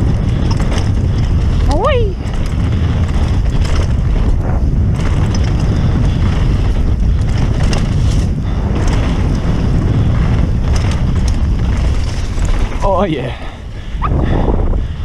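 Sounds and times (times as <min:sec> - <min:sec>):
bike clicks and rattles: 0:00.0 - 0:15.0
bike tyre rumble on dirt: 0:00.0 - 0:15.0
wind buffeting microphone: 0:00.0 - 0:15.0.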